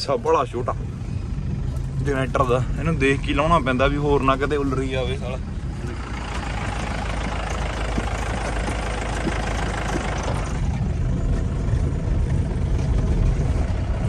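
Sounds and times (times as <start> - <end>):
car engine running at low speed: 0.0 - 14.0
tyre and road noise: 0.0 - 14.0.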